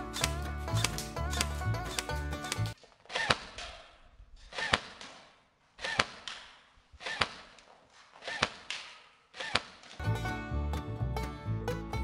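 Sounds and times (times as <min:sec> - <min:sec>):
airsoft gun whir and crack: 0:00.0 - 0:10.0.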